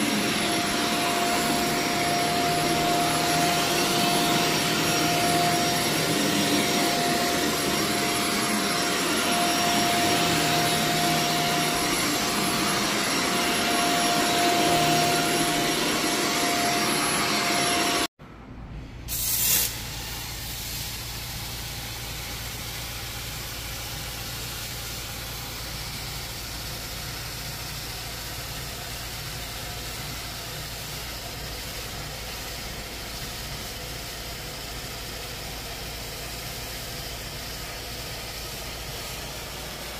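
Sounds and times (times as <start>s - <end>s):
cleaning machine high whine: 0.0s - 18.1s, 19.1s - 39.9s.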